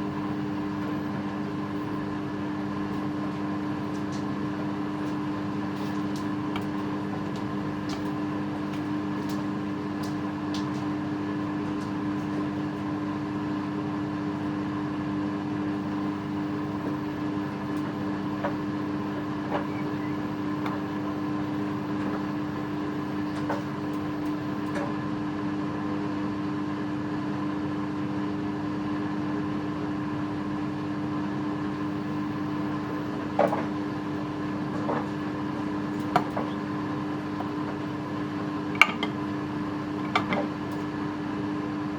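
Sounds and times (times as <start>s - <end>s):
washing machine humming: 0.0s - 41.9s.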